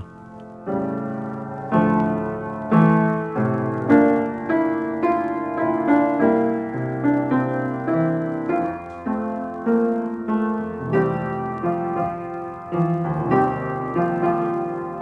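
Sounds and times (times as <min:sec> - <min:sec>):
out-of-tune piano playing: 0:00.0 - 0:15.0.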